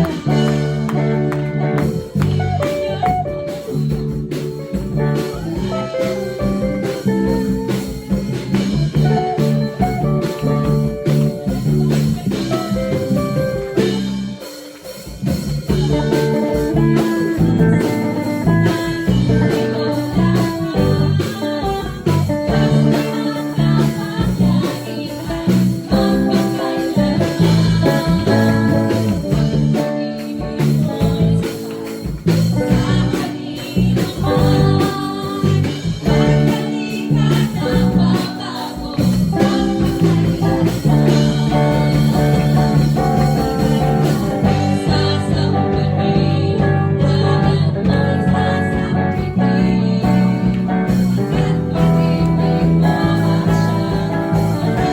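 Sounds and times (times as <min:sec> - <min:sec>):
person singing: 0:00.0 - 0:14.8, 0:15.4 - 0:54.9
guitar band music: 0:00.0 - 0:54.9.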